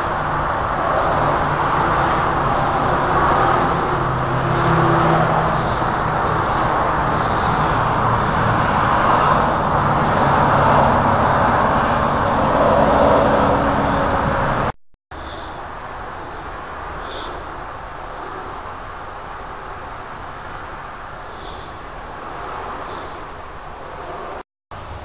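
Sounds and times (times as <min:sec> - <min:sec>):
noise: 0:00.0 - 0:25.0.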